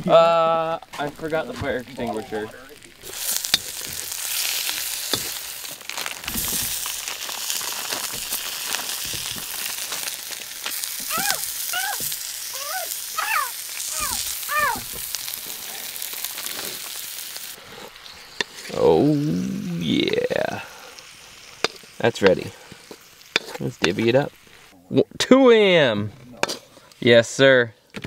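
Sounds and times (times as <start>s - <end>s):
food sizzling in a wok: 0.3s - 24.8s.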